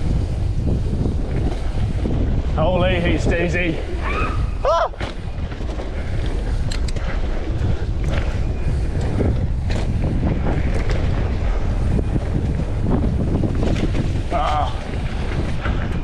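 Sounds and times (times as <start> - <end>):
bike rattling over rough ground: 0.0 - 16.0
wind buffeting microphone: 0.0 - 16.0.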